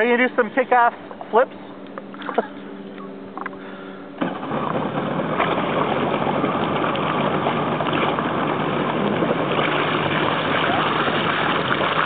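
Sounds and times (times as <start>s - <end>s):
motorboat engine idling: 0.0s - 12.0s
rush of engine and water: 2.2s - 12.0s.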